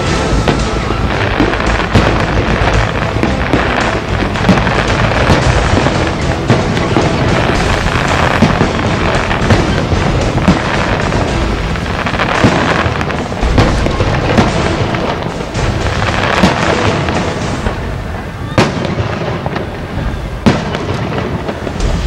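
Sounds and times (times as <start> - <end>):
fireworks banging and crackling: 0.0 - 22.0
loud music: 0.0 - 22.0.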